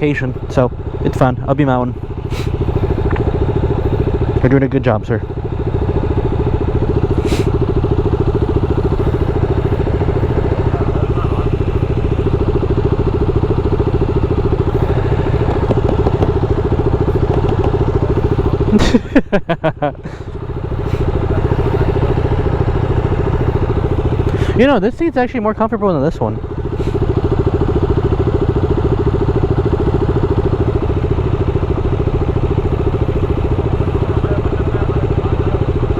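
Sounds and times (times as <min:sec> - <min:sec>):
motorcycle engine running steadily: 0:00.0 - 0:35.9.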